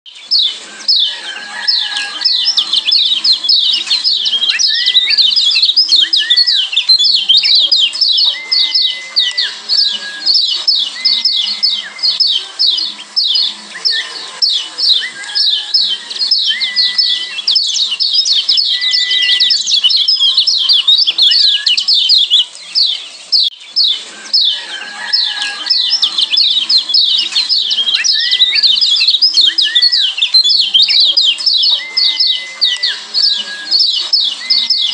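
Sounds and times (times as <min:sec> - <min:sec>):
birds chirping high: 0:00.0 - 0:34.9
low whistled bird notes: 0:00.1 - 0:34.9.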